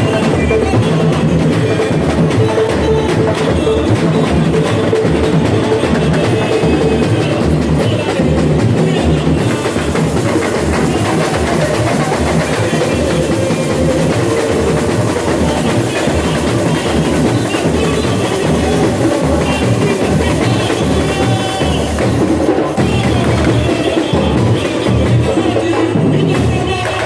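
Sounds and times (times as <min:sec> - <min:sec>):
lighter drums and percussion: 0:00.0 - 0:27.0.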